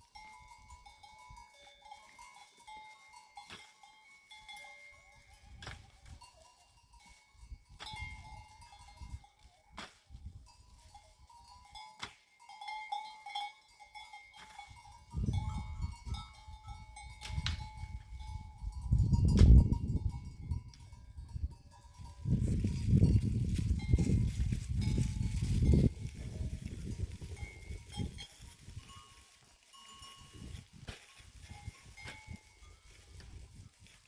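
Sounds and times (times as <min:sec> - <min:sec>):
goat and sheep bells ringing: 0:00.0 - 0:34.0.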